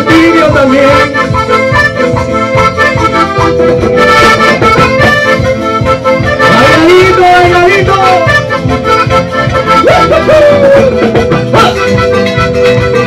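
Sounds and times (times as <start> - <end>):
pulsing bass beat: 0.0 - 13.0
sustained accordion notes: 0.0 - 13.0.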